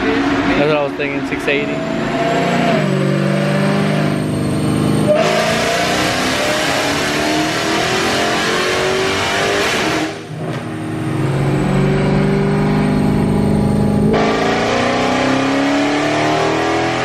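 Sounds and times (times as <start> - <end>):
car engine roaring at full throttle: 0.0 - 17.0.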